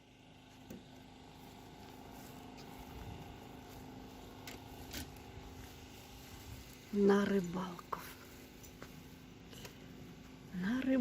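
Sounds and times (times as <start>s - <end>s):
low hum and rumble: 0.0s - 11.0s
thin constant tone: 0.0s - 11.0s.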